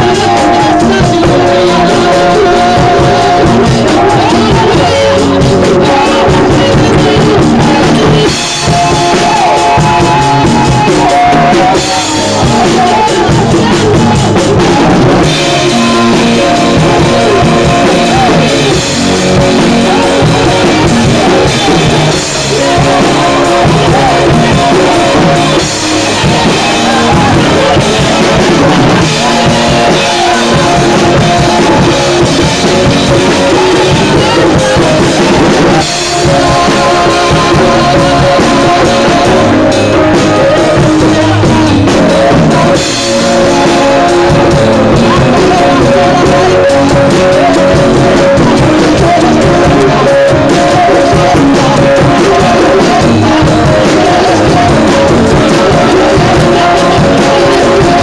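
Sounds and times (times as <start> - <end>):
drum kit and cymbals: 0.0 - 58.0
live band music: 0.0 - 58.0.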